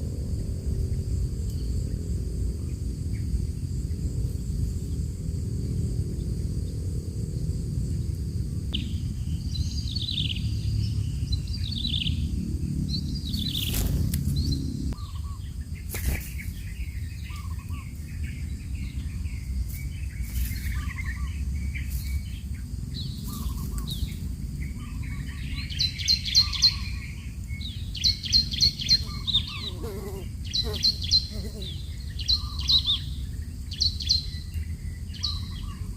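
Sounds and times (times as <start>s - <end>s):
wind rumble on microphone: 0.0s - 35.9s
small birds chirping and trilling: 0.8s - 35.9s.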